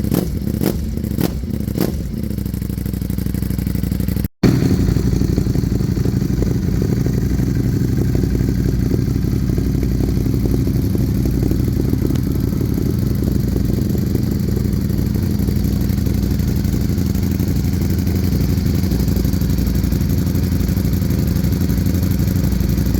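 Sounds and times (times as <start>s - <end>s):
motorcycle engine idling: 0.0s - 22.9s.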